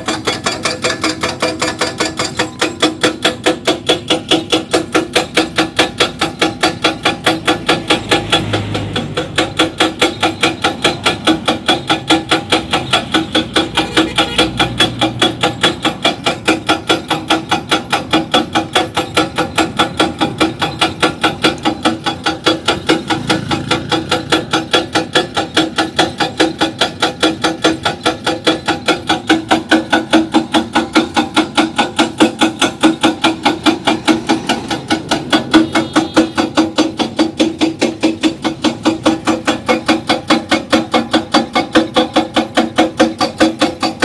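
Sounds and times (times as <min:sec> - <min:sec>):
hydraulic rock breaker hammering: 0:00.0 - 0:44.0.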